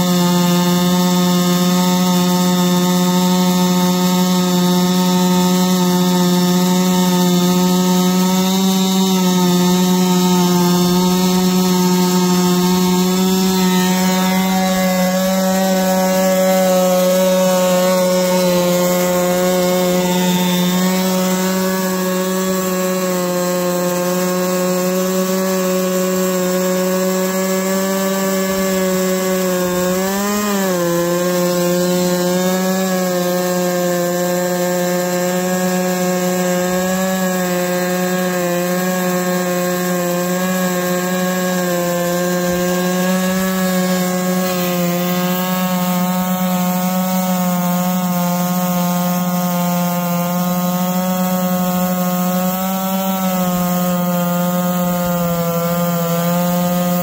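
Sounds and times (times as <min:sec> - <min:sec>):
chainsaw cutting wood under load: 0:00.0 - 0:57.0.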